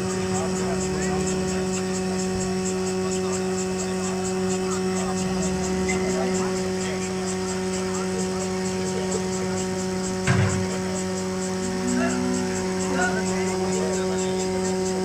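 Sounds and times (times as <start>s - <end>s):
electric machine hum: 0.0s - 15.0s
fast regular ticking: 0.0s - 15.0s.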